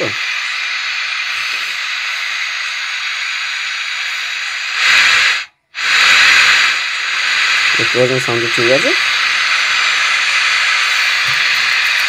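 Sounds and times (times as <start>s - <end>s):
radio hiss from loudspeaker: 0.0s - 12.0s.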